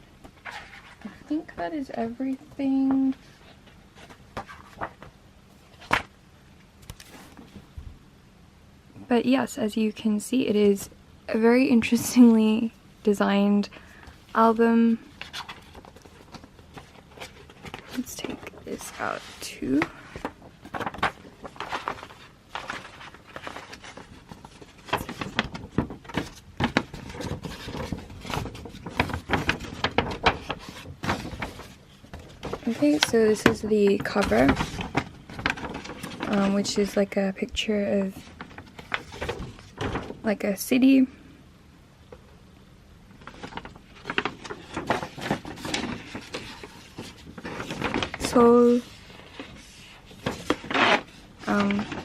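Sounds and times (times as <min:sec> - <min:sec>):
cardboard and paper rustling: 0:00.3 - 0:06.1, 0:06.8 - 0:07.8, 0:14.0 - 0:40.5, 0:43.2 - 0:52.0.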